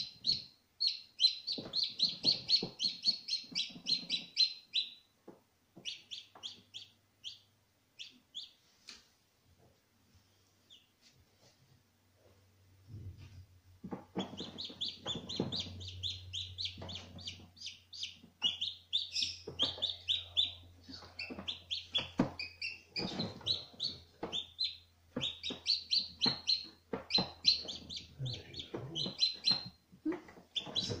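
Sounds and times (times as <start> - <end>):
chicks peeping: 0.0 - 8.7, 10.6 - 11.0, 13.8 - 31.0
faint low hum: 0.0 - 31.0.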